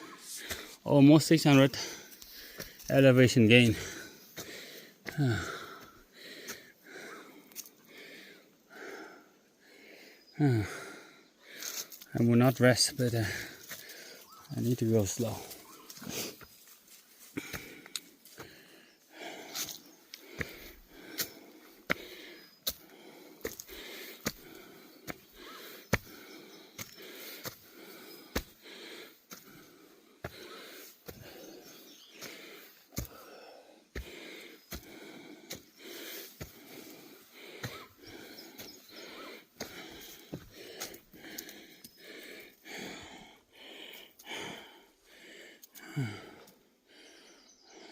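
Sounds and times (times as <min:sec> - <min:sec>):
person breathing hard: 0:00.0 - 0:00.8, 0:01.6 - 0:02.9, 0:03.7 - 0:12.0, 0:13.2 - 0:14.4, 0:15.3 - 0:47.9
footsteps on trail: 0:00.0 - 0:09.2, 0:10.5 - 0:46.6.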